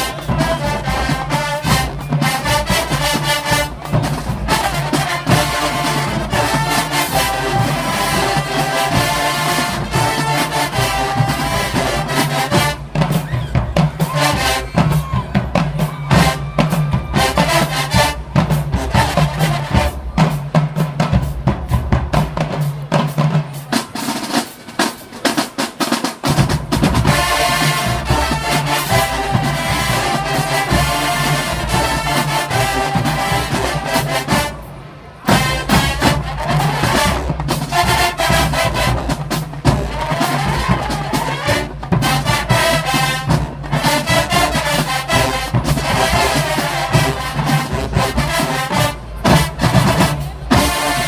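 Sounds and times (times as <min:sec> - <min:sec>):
marching band brass: 0:00.0 - 0:51.0
snare and bass drums: 0:00.0 - 0:51.0.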